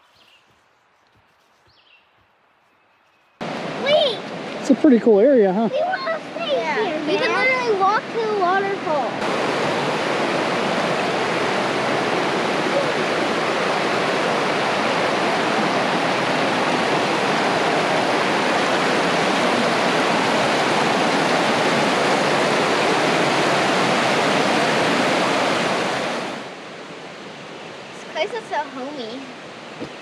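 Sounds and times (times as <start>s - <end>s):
water rushing over rocks: 3.4s - 30.0s.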